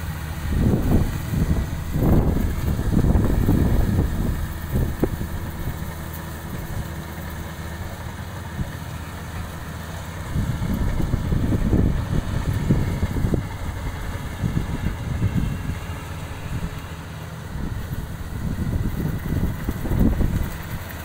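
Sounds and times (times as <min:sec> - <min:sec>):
distant harvester engine hum: 0:00.0 - 0:21.0
low rumbles: 0:00.0 - 0:21.0.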